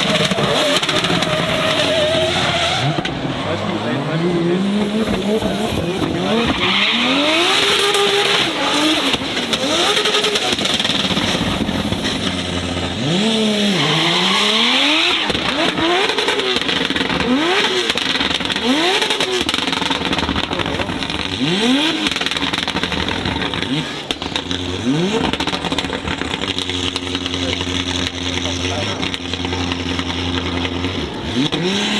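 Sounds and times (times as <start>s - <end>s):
car engine revving hard: 0.0s - 31.9s.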